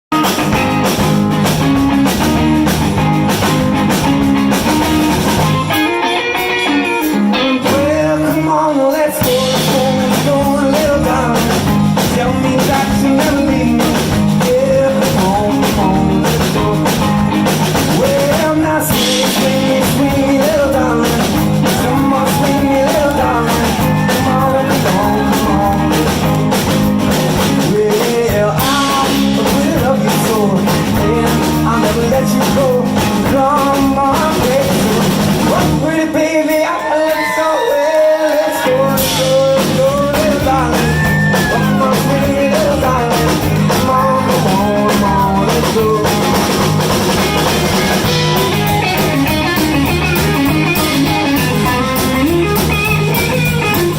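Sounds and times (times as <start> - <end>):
blues band playing live: 0.1 - 53.9
person singing: 5.7 - 26.8, 27.4 - 53.9.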